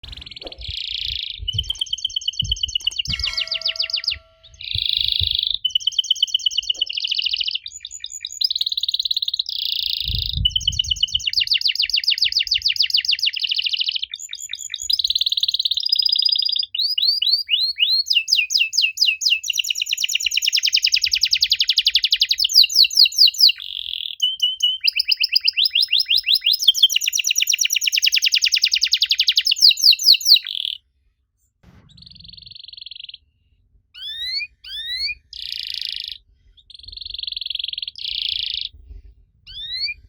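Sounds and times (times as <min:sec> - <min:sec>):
canary singing trills: 0:00.0 - 0:30.8, 0:34.0 - 0:38.8, 0:39.5 - 0:40.0.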